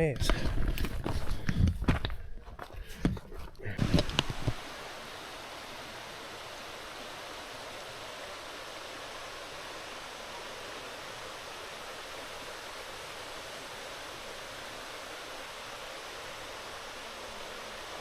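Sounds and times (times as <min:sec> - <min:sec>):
creek water rushing: 0:02.6 - 0:18.0.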